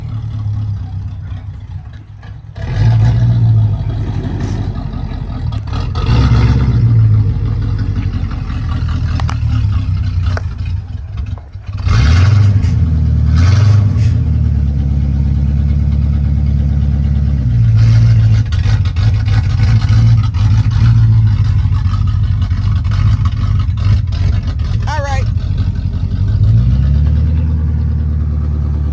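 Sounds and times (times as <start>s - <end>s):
car engine idling roughly: 0.0s - 12.7s, 14.2s - 28.9s.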